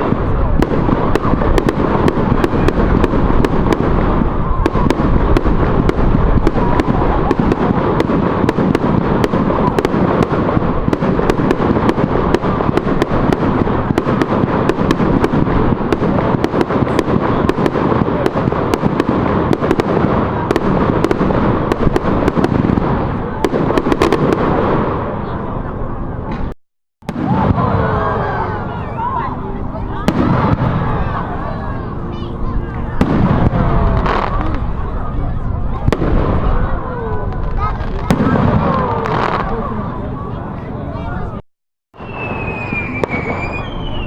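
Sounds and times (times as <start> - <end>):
fireworks cracking and banging: 0.0 - 40.4, 42.0 - 44.0
deep rumble: 0.0 - 41.4.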